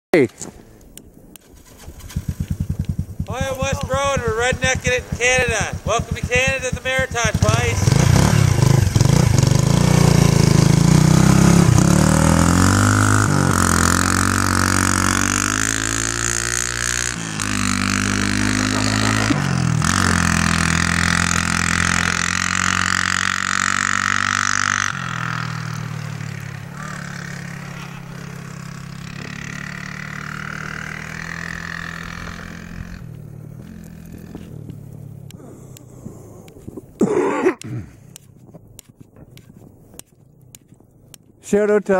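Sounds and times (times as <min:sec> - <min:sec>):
atv engine revving: 0:01.4 - 0:37.1.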